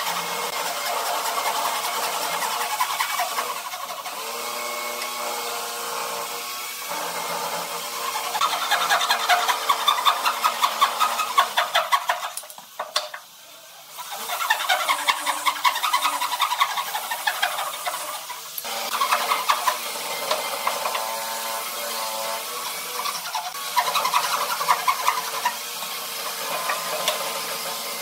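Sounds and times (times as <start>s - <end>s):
power tool cutting wood: 0.0s - 28.0s.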